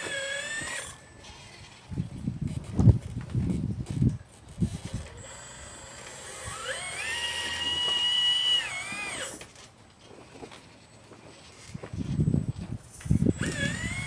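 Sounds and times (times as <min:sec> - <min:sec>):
electric motor whining: 0:00.0 - 0:10.4, 0:11.1 - 0:14.0.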